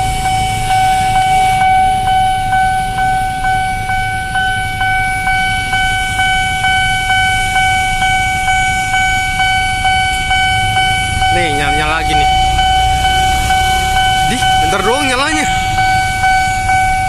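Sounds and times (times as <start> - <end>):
level-crossing warning alarm: 0.0 - 17.0
low traffic rumble: 0.0 - 17.0.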